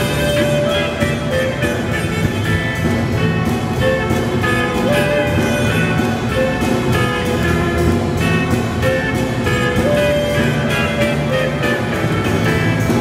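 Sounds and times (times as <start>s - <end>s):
drum kit beat: 0.0s - 13.0s
electric bass: 0.0s - 13.0s
electric guitar: 0.0s - 13.0s
wind instrument held notes: 0.0s - 13.0s.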